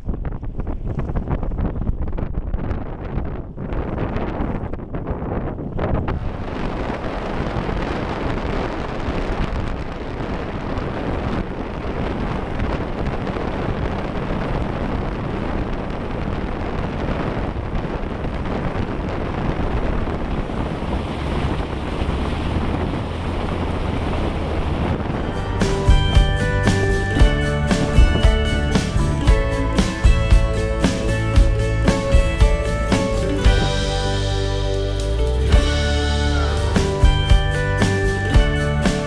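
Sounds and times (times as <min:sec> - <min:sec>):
low hum: 0:00.0 - 0:39.0
wind buffeting microphone: 0:00.0 - 0:39.0
water rushing past hull: 0:05.6 - 0:39.0
motorboat engine: 0:06.1 - 0:39.0.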